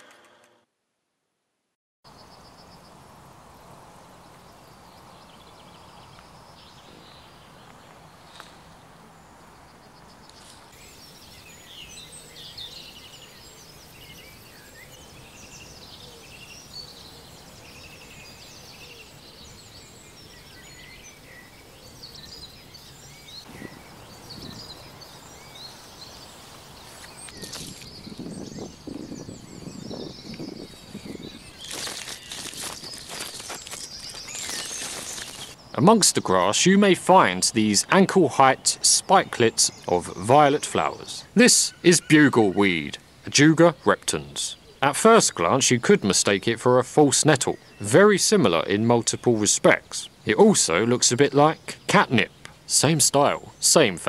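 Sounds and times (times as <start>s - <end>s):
small birds chirping: 2.1s - 54.0s.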